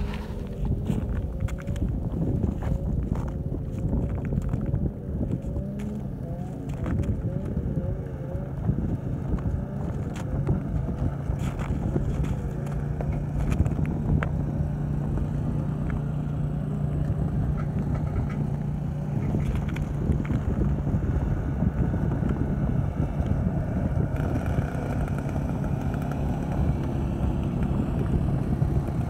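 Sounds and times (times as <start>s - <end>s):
engine running: 0.0s - 29.0s
wind buffeting microphone: 0.0s - 29.0s.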